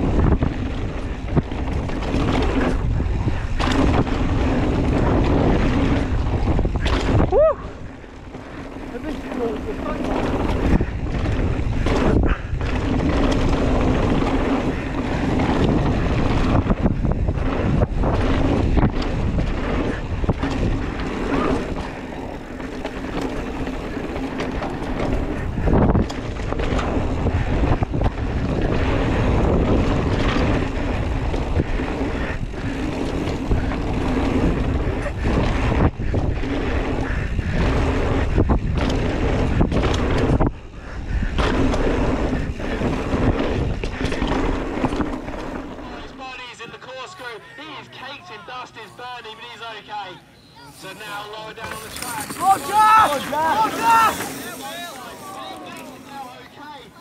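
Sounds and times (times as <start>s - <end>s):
wind on microphone: 0.0s - 46.0s
bike rattling over rough ground: 0.0s - 49.6s, 50.6s - 57.0s.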